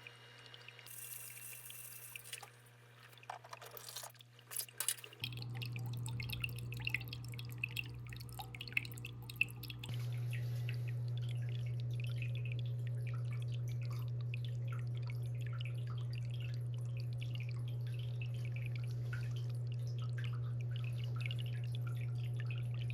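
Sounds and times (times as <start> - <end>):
steady low hum: 0.0 - 22.9
water trickling and dripping: 0.0 - 22.9.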